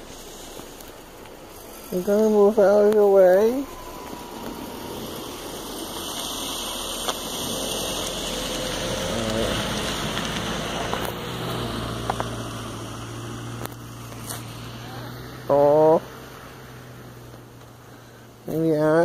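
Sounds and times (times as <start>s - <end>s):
car driving past on slushy road: 0.0s - 18.5s.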